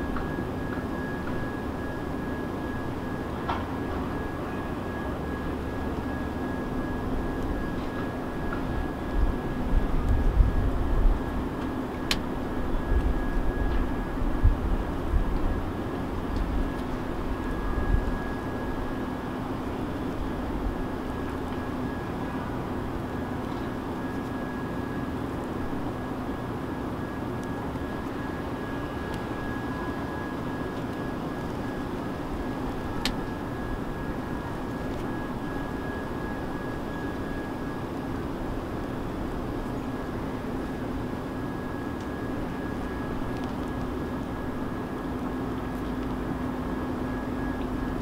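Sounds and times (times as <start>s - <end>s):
motor droning with whine: 0.0s - 48.0s.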